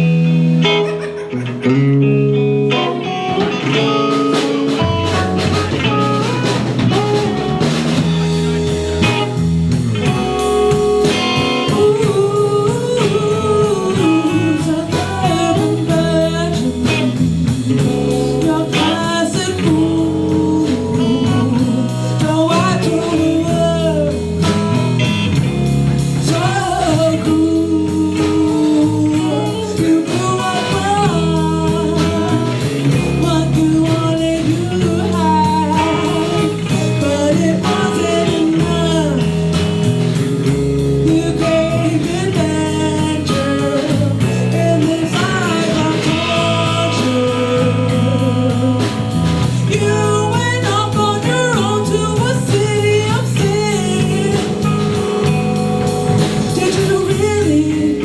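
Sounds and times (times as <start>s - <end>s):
live rock band playing: 0.0s - 58.0s
person singing: 2.7s - 58.0s.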